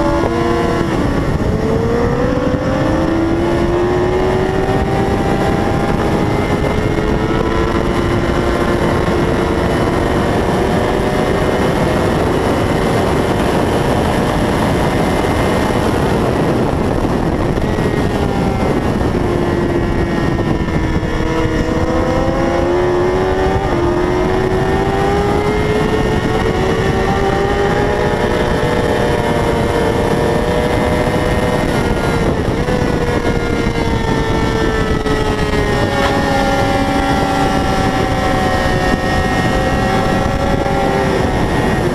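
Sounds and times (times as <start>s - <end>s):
heavy rushing noise: 0.0s - 41.9s
racing motorcycle engine revving: 0.0s - 41.9s.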